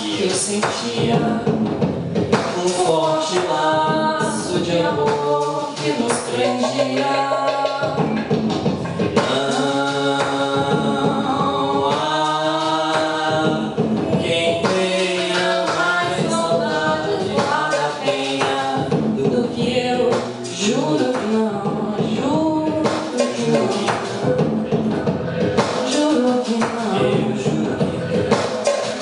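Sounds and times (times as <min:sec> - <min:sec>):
man and woman singing: 0:00.0 - 0:29.0.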